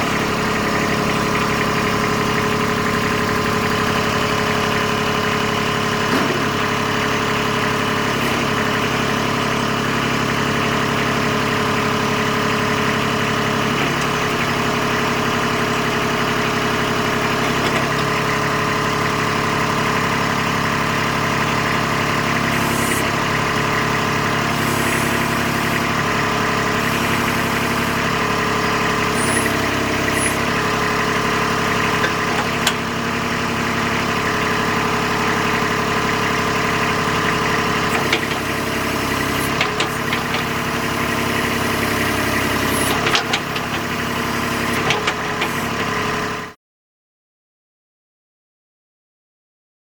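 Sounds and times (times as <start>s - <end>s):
diesel tractor engine idling: 0.0s - 46.6s.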